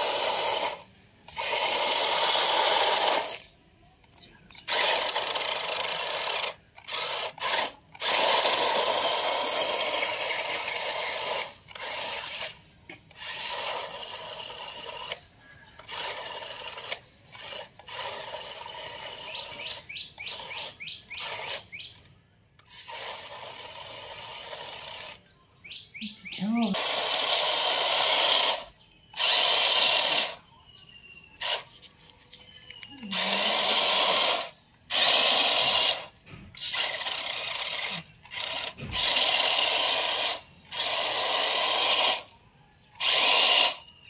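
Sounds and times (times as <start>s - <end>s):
toy car electric motor whirring: 0.0s - 25.3s, 26.6s - 44.0s.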